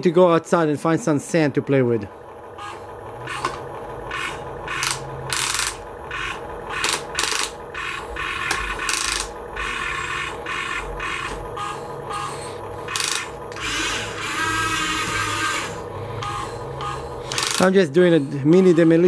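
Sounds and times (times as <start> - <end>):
electric gear motors whirring: 2.3 - 19.0.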